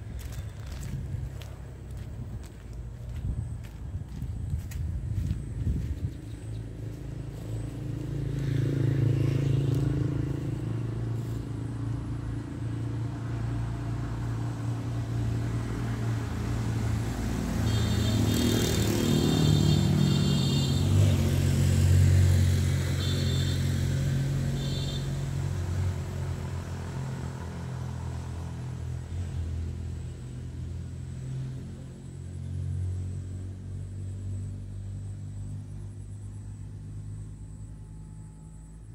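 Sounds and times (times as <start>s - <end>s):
vehicles passing on road: 0.0s - 38.9s.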